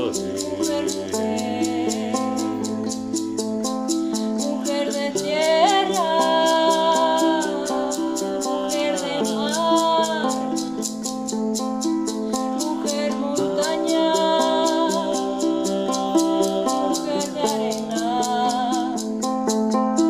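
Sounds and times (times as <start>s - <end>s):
woman singing: 0.0s - 19.6s
fast rattle keeping time: 0.0s - 20.0s
ukulele chords: 0.0s - 20.0s.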